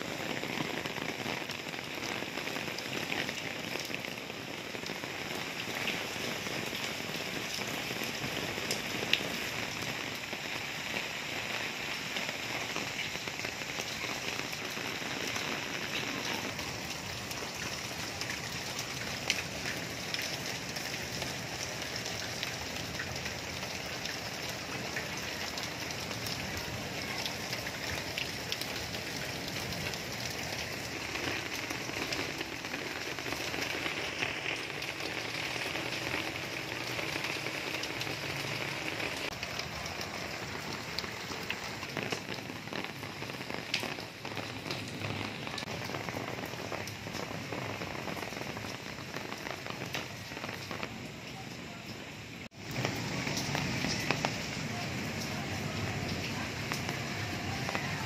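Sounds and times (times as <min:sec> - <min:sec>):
heavy rain on a rooftop: 0:00.0 - 0:58.0
sharp raindrop hits: 0:00.0 - 0:58.0.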